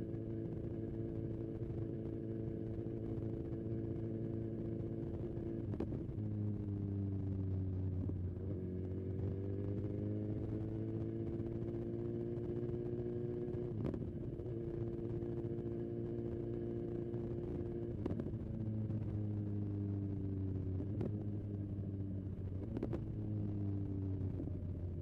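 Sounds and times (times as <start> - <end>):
motorcycle engine at low revs: 0.0 - 25.0.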